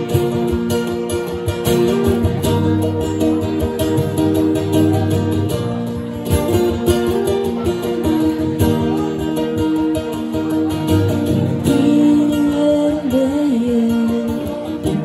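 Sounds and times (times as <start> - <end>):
acoustic guitar strummed: 0.0 - 15.0
held melody line: 0.0 - 15.0.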